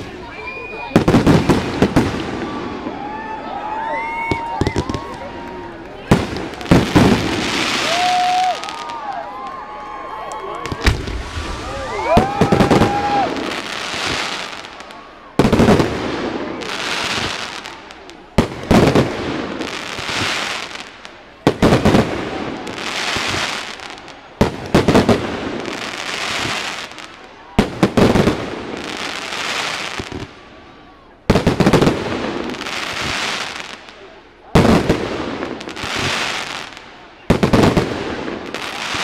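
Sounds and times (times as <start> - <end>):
firework bangs: 0.0 - 9.5, 10.6 - 30.5, 31.2 - 39.0
crackling fizz of fireworks: 0.0 - 39.0.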